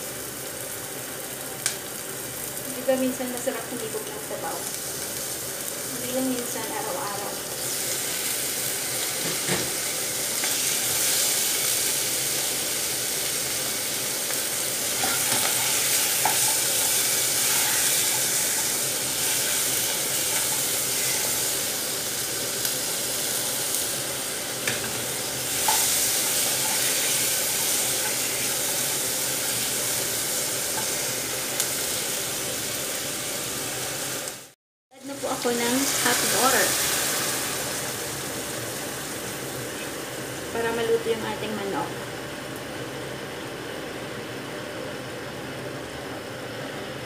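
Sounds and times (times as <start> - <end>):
chicken sizzling in oil: 0.0 - 44.0.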